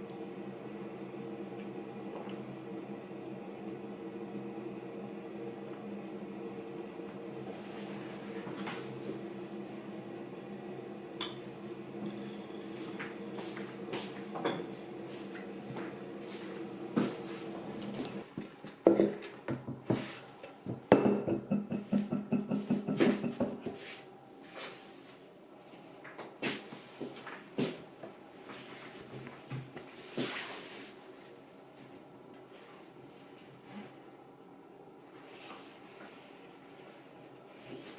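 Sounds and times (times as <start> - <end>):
appliance hum: 0.0 - 37.9.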